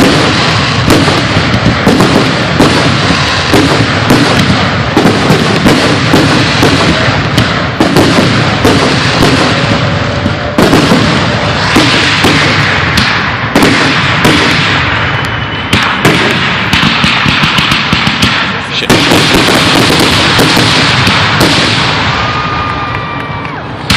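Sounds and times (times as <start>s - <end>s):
fireworks booming: 0.0s - 23.9s.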